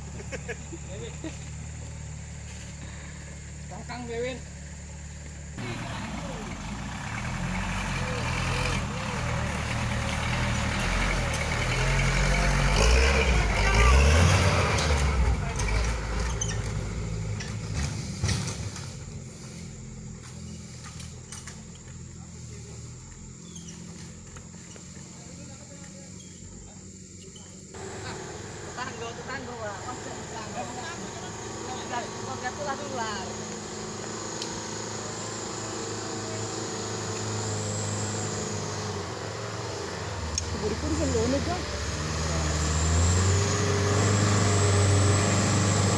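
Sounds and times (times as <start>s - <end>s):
truck engine humming: 0.0s - 45.9s.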